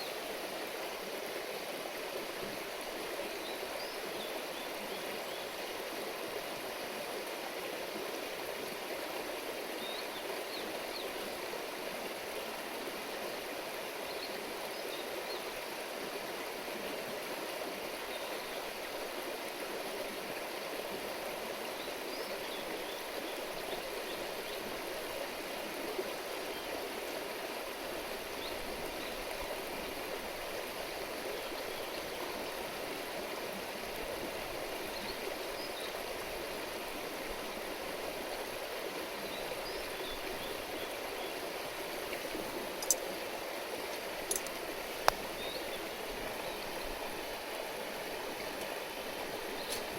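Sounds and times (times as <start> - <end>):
stream flowing over stones: 0.0 - 49.9.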